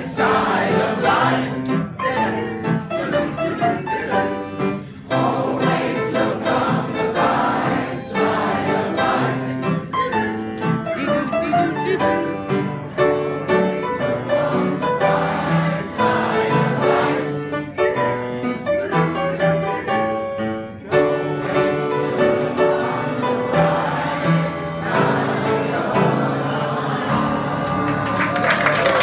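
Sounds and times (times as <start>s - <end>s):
choir singing in unison: 0.0s - 10.8s, 13.4s - 20.0s, 20.6s - 28.2s
instrumental accompaniment: 0.0s - 28.1s.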